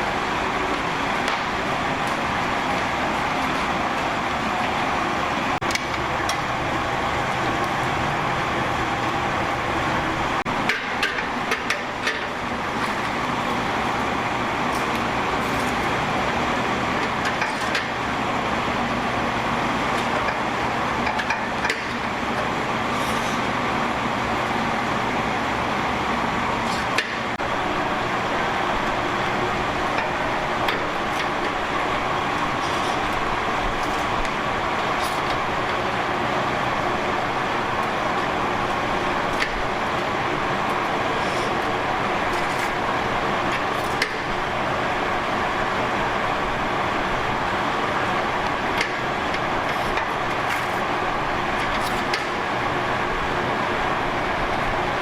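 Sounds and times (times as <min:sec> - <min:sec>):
steady mechanical noise: 0:00.0 - 0:55.0.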